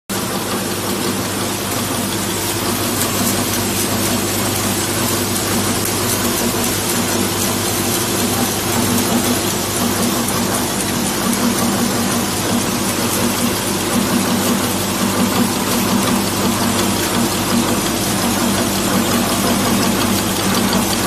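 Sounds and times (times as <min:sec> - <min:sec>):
vibratory bowl feeder hum: 0:00.1 - 0:21.0.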